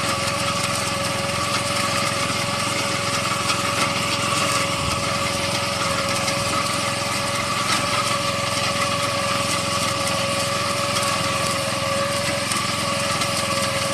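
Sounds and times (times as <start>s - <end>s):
small engine running with whine: 0.0s - 13.9s.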